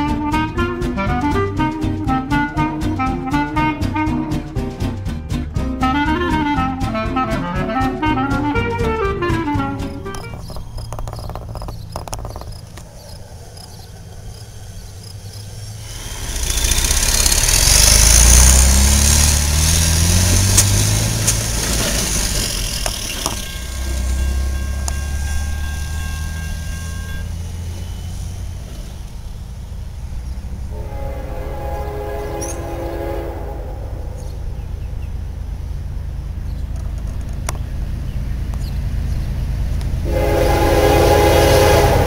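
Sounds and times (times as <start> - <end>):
diesel truck accelerating: 0.0 - 42.0.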